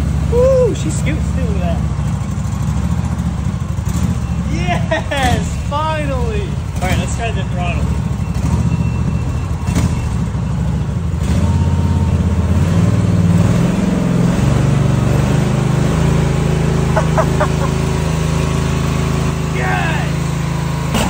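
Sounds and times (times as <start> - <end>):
riding lawn mower engine: 0.0 - 21.0.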